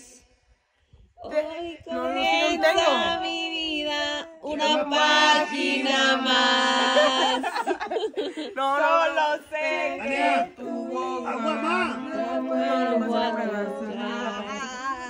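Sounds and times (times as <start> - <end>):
voices singing together: 1.2 - 15.0.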